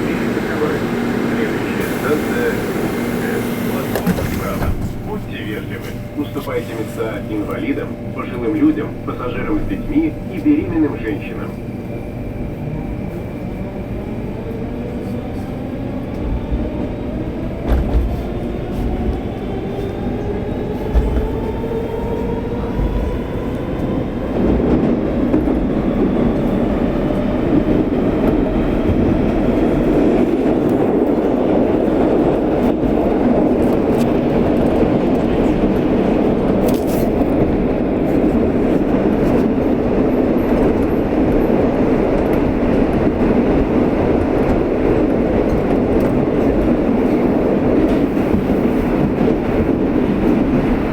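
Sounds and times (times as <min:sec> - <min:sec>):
wheels rumbling on rail: 0:00.0 - 0:50.9.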